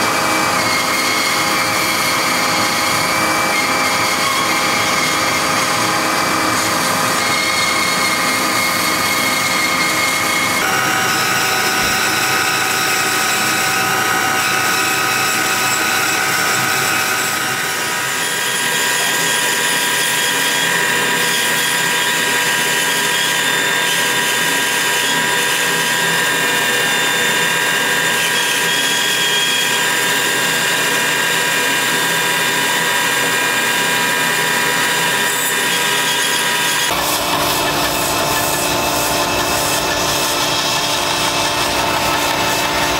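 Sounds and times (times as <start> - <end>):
bandsaw whine: 0.0 - 42.9.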